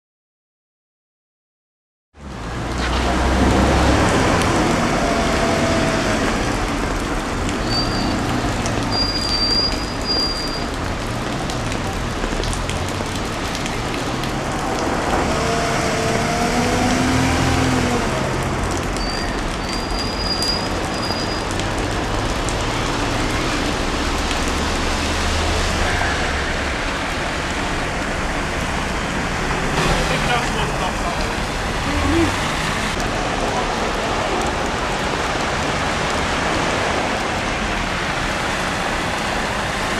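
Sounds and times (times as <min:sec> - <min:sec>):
cars driving through floodwater: 0:02.2 - 0:39.9
heavy rain hissing on road: 0:02.2 - 0:39.9.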